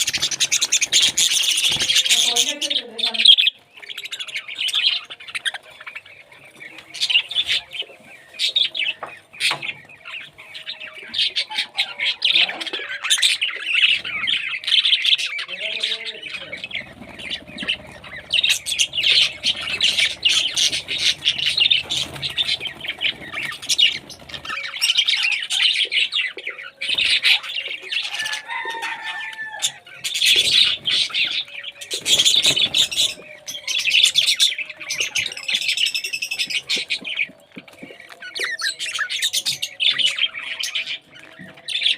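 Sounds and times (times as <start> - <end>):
parrots chattering and squawking: 0.0 - 41.9.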